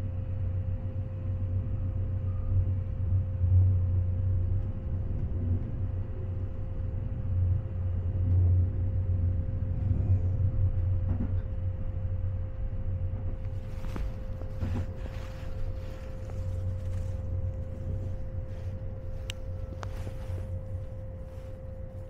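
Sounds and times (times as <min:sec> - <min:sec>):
mid-pitched hum: 0:00.0 - 0:22.0
train low rumble: 0:00.0 - 0:22.0.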